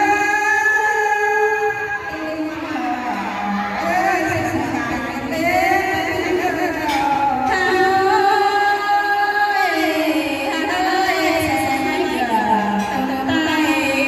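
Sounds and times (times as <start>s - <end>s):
woman singing through pa: 0.0s - 14.0s.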